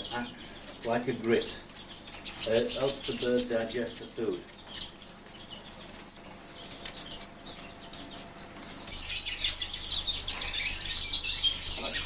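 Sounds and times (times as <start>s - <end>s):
canaries twittering and chirping: 0.0s - 12.0s.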